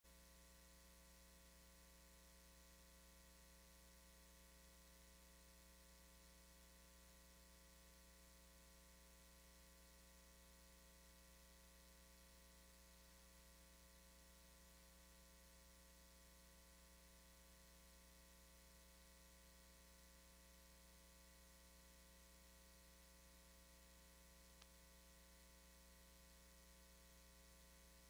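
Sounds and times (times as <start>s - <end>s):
faint hum with low hiss: 0.1s - 28.0s.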